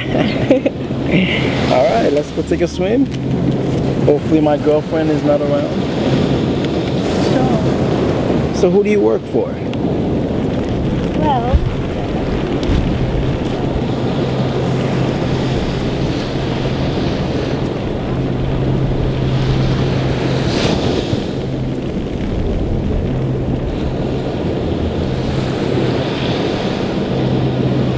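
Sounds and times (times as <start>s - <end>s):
low hum: 0.0s - 8.8s, 9.5s - 27.9s
small waves washing on sand: 0.0s - 27.9s
wind buffeting microphone: 0.0s - 27.9s.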